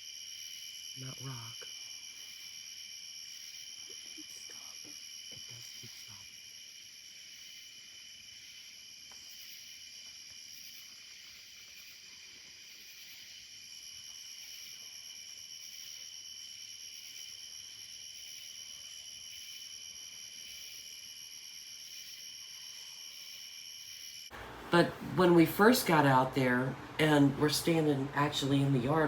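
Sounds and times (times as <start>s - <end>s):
fast pulsing insect chirp: 0.0s - 24.4s
crickets trilling: 0.0s - 29.0s.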